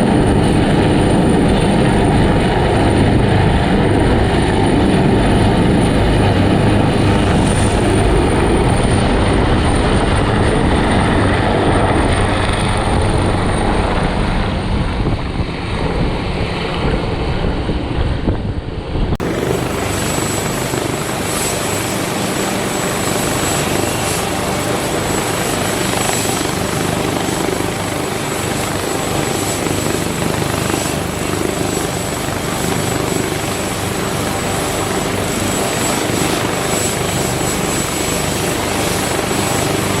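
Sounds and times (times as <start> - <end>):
helicopter rotor and engine: 0.0 - 40.0.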